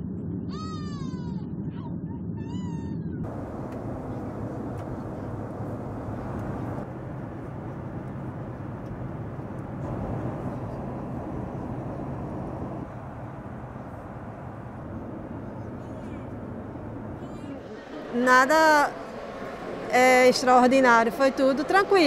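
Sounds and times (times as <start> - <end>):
jet airliner cabin noise: 3.3 - 22.0.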